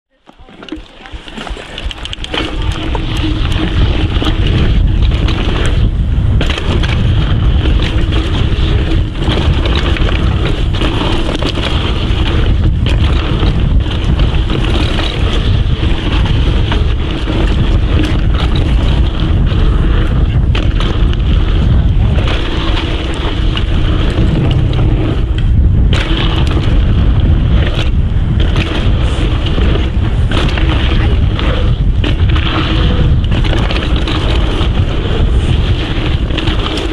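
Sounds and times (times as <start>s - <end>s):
bike knocking and rattling: 0.1s - 36.9s
bike tyres rolling over dirt: 0.1s - 36.9s
wind rushing on microphone: 0.7s - 36.9s.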